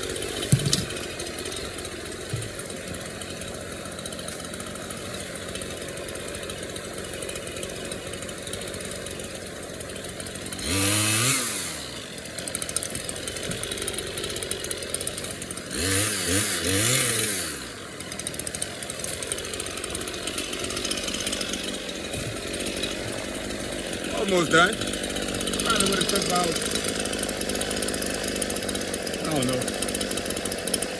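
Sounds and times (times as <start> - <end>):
chainsaw idling and revving: 0.0 - 30.9.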